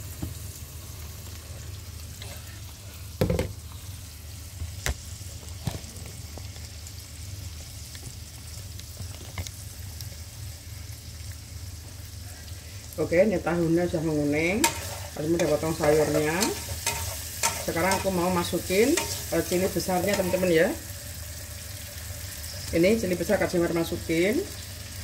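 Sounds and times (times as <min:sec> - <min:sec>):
tofu sizzling in oil: 0:00.0 - 0:25.0.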